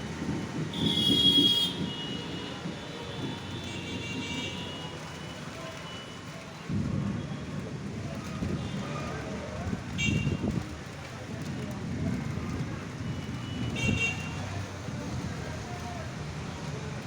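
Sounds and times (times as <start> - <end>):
wind and rain rumble: 0.0 - 17.0.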